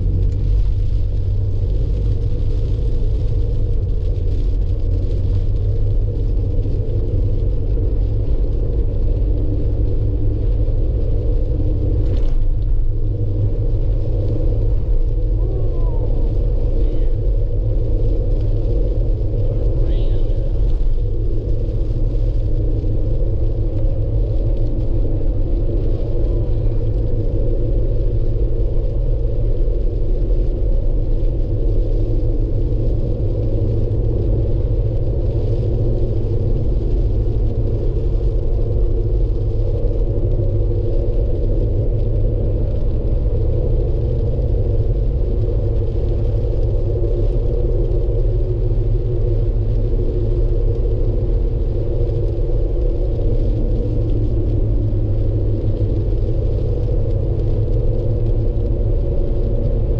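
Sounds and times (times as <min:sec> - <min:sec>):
vehicle road and engine rumble: 0:00.0 - 0:59.9.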